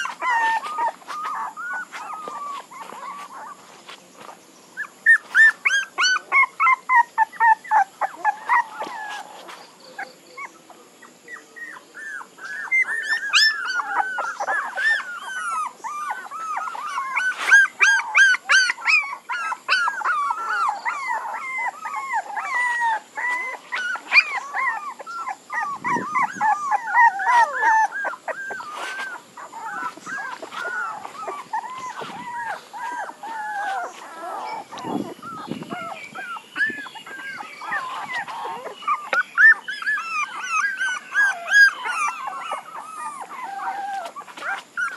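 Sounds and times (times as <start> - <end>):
puppies whimpering and yelping: 0.0 - 44.9.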